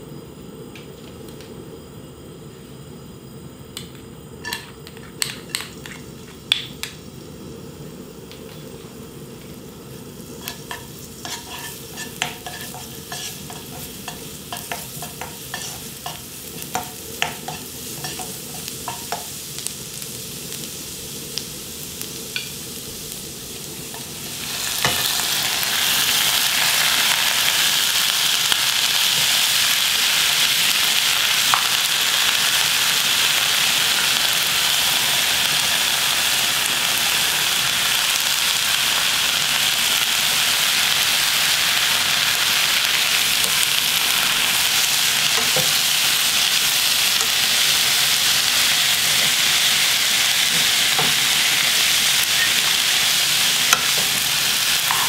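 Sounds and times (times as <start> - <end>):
loud steady sizzle: 0.0 - 55.0
garlic sizzling in oil: 4.2 - 55.0.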